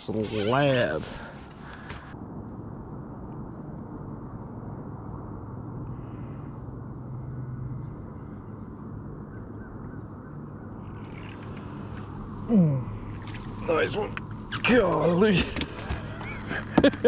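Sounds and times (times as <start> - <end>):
outdoor background noise on water: 0.0 - 17.0.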